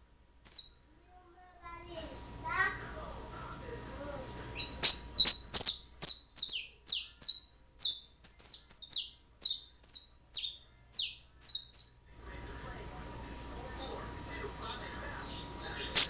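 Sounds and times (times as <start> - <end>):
canary singing: 0.0 - 0.9, 1.8 - 2.4, 4.2 - 16.0.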